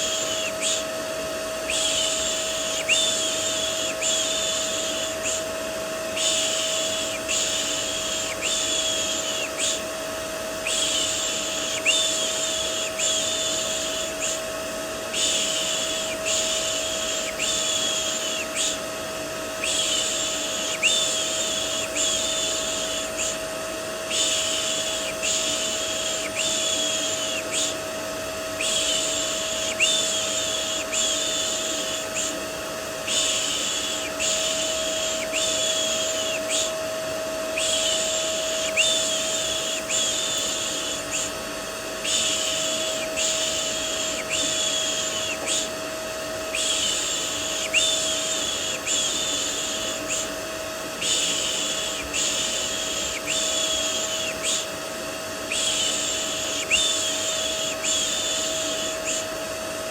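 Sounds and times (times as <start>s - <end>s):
vacuum cleaner humming: 0.0s - 59.9s.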